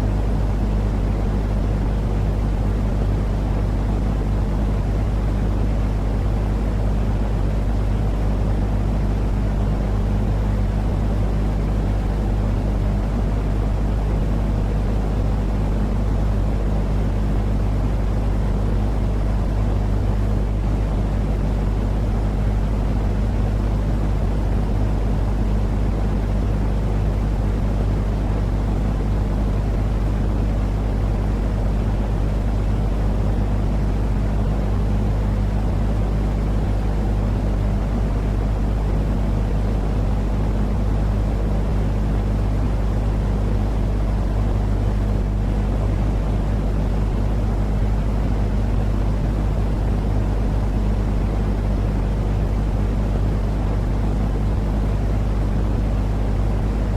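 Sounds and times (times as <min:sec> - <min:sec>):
deep rumbling white noise: 0:00.0 - 0:56.9.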